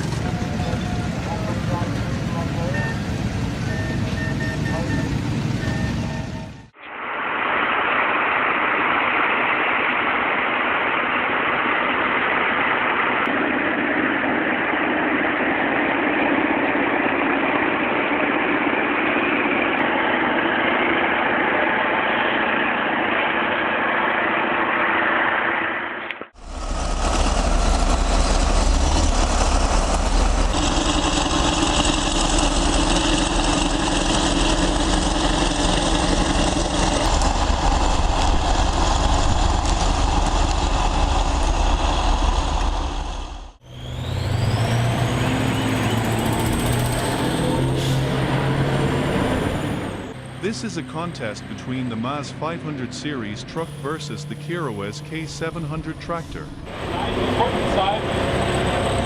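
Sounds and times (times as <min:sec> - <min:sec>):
deep engine rumble: 0:00.0 - 0:59.0
thin noisy engine: 0:00.0 - 0:59.0.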